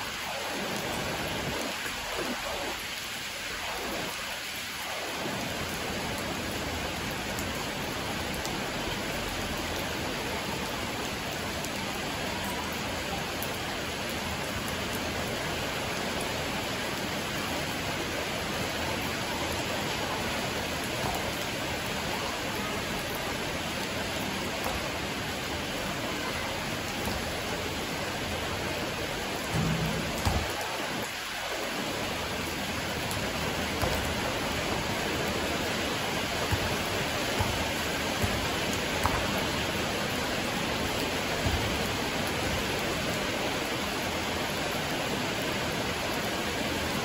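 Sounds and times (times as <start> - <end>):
rain falling on concrete: 0.0 - 47.0.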